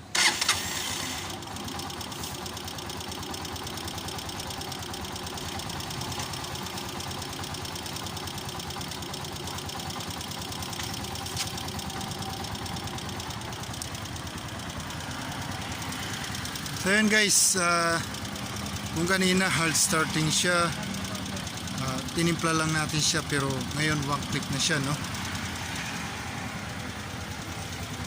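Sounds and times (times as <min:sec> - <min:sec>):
motorcycle engine idling: 0:00.1 - 0:28.0
valve ticking: 0:02.5 - 0:26.6.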